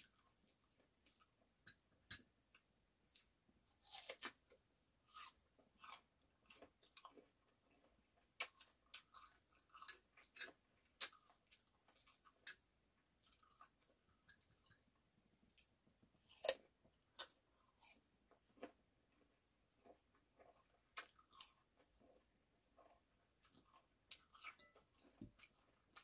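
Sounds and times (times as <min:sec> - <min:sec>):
person chewing: 0:02.5 - 0:26.0.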